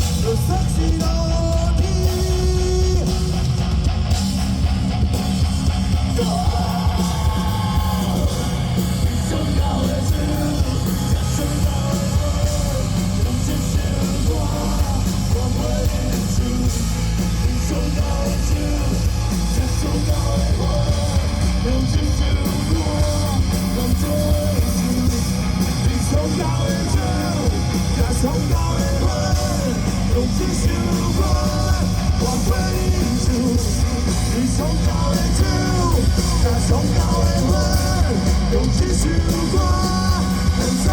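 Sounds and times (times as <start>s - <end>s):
live rock band playing: 0.0s - 40.9s
sung and yelled vocals: 0.0s - 40.9s.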